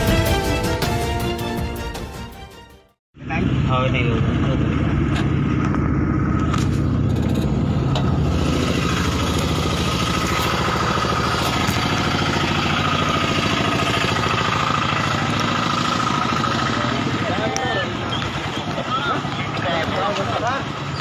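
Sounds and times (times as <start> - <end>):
vehicle engine idling: 3.2 - 21.0.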